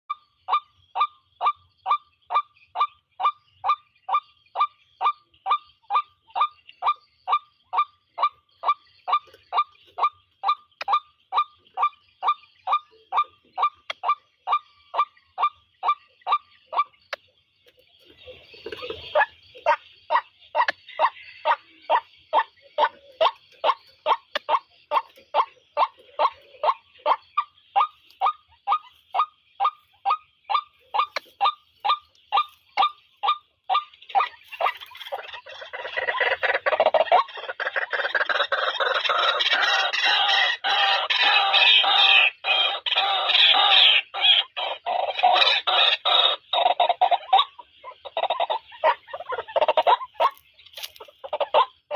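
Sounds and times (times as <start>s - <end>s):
harsh croaking bird calls: 0.1s - 51.9s.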